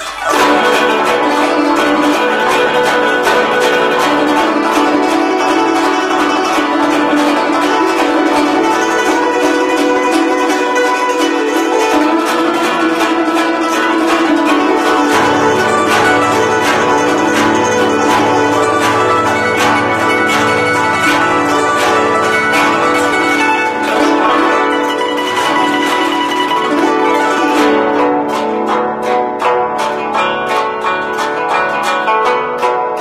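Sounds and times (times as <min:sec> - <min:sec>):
guzheng rapid plucking: 0:00.0 - 0:33.0.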